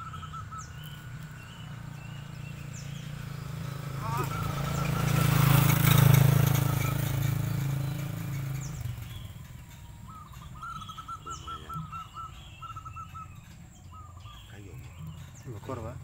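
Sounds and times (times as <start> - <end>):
vehicle engine passing: 0.0 - 16.0.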